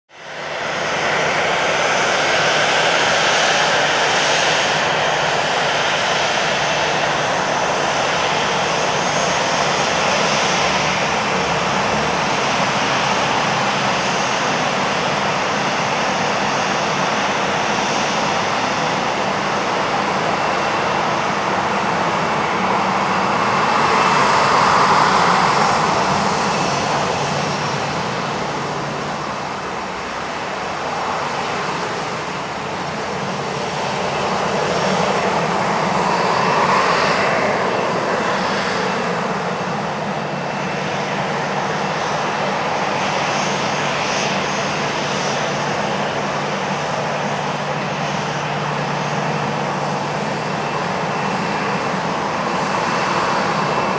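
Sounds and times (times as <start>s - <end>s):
jet engines whining: 0.1s - 53.9s.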